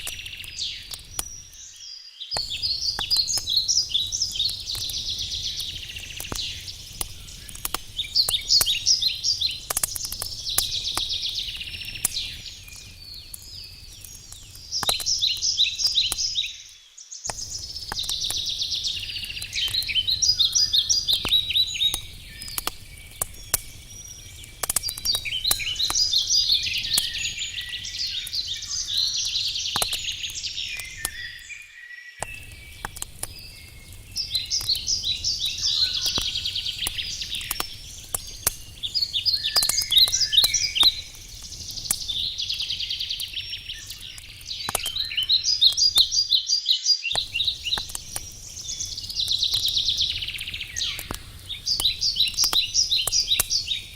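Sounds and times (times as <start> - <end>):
campfire crackling and popping: 0.0 - 31.6, 32.2 - 53.9
songbirds chirping: 0.0 - 53.9.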